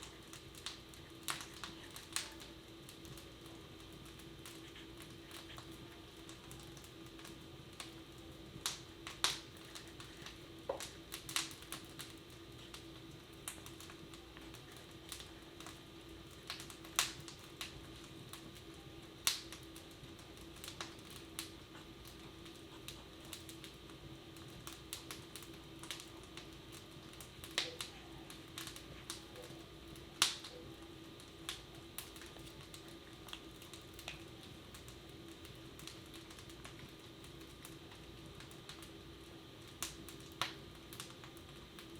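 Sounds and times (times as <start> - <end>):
faint household hum: 0.0 - 41.9
wood fire crackling: 0.0 - 41.9.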